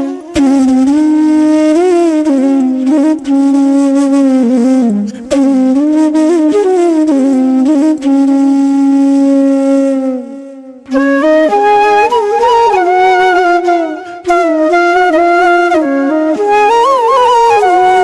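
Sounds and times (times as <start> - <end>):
flute melody: 0.0 - 18.0.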